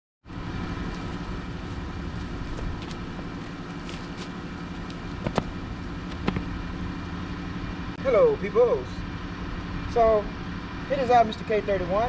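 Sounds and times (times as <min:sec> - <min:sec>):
van engine idling: 0:00.3 - 0:12.0.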